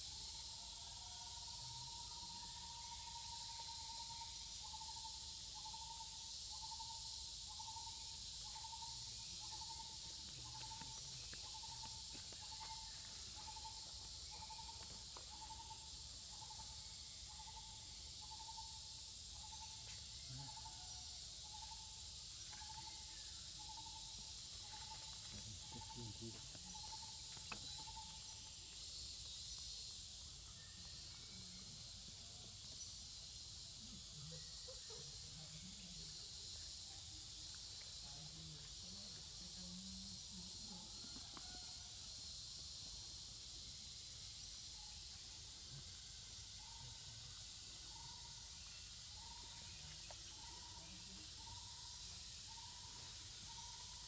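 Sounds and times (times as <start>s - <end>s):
insect chorus: 0.0s - 54.0s.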